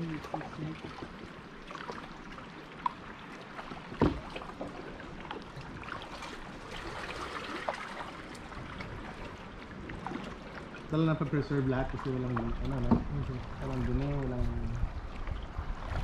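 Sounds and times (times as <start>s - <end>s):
small splashes: 0.0s - 16.0s
water trickling and dripping: 0.0s - 16.0s.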